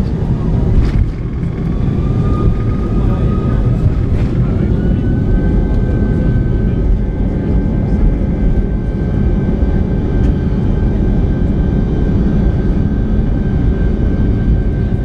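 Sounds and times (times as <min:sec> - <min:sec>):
jet engines droning: 0:00.0 - 0:15.0.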